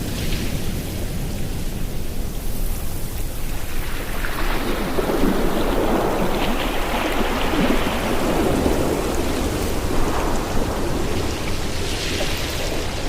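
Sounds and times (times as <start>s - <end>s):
low surf rumble: 0.0s - 13.0s.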